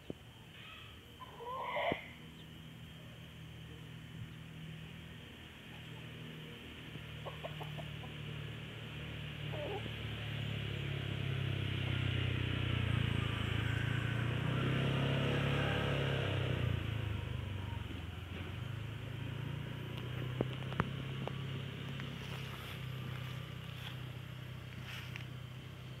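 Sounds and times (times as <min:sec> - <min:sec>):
motor engine humming: 0:02.0 - 0:26.0.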